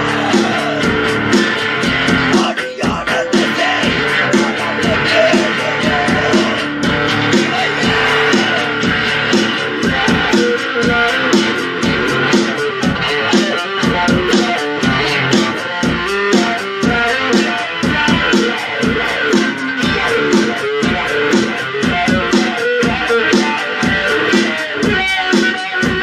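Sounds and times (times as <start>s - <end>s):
guitar music: 0.0s - 26.0s.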